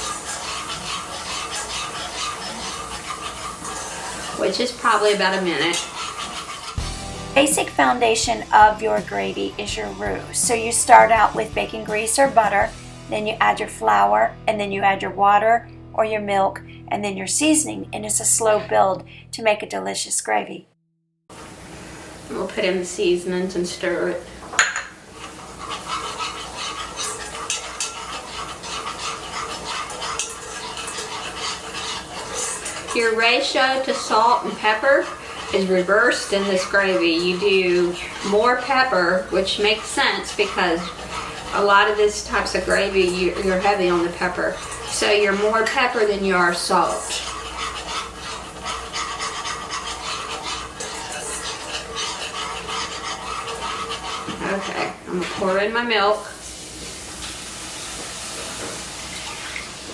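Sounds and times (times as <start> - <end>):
utensil scraping a skillet: 0.0 - 15.2, 22.3 - 59.9.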